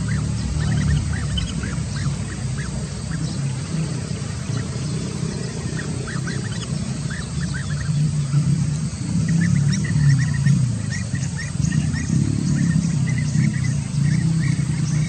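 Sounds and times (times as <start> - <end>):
bee-eaters chirping: 0.0 - 15.0
low rumble: 0.0 - 15.0.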